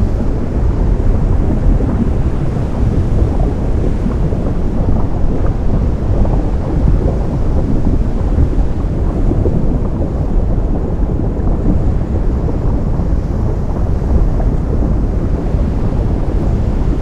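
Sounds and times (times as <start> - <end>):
deep surf rumble: 0.0 - 17.0.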